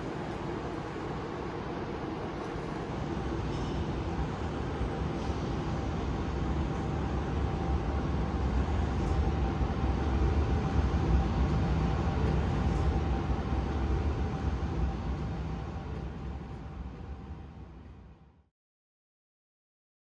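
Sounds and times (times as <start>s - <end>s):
electric locomotive rumble and whine: 0.0s - 18.4s.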